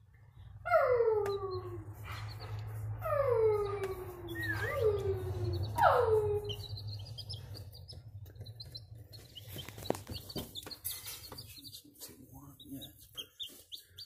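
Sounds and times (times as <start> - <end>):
chicks peeping: 1.2 - 14.0.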